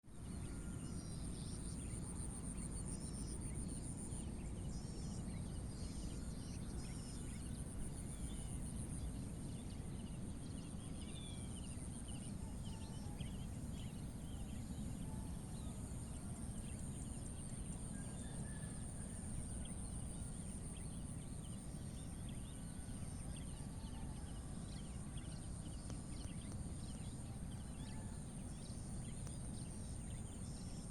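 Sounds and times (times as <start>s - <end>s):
insects droning: 0.1s - 30.9s.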